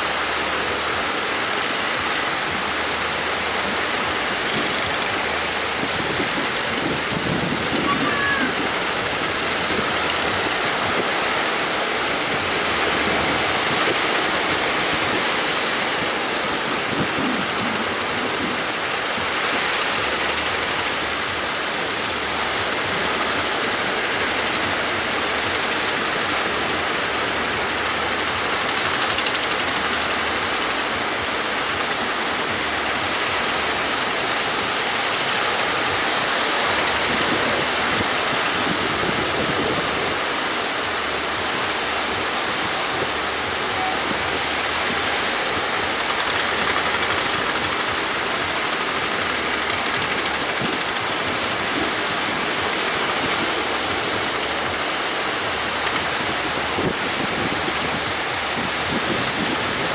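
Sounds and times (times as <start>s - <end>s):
heavy surf breaking: 0.0s - 59.9s.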